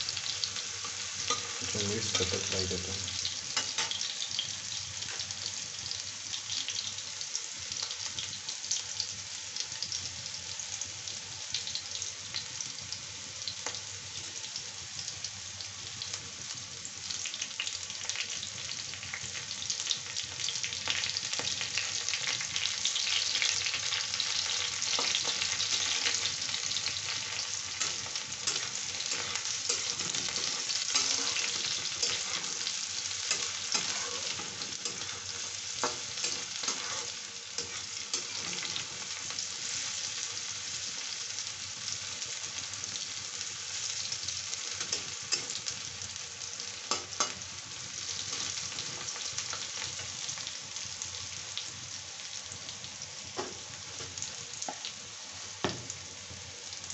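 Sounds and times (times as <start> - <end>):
vegetables frying in oil: 0.0 - 56.9.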